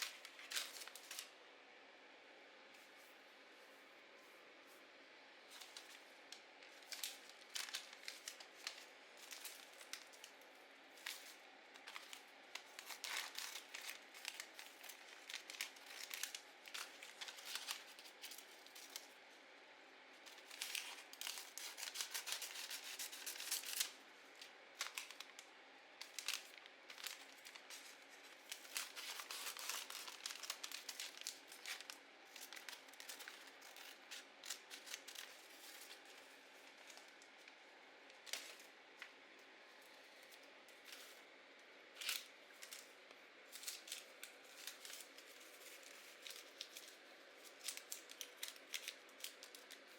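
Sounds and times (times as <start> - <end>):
paper tearing and crinkling: 0.0 - 1.3, 5.5 - 19.1, 20.2 - 38.8, 41.9 - 42.9, 43.5 - 49.9.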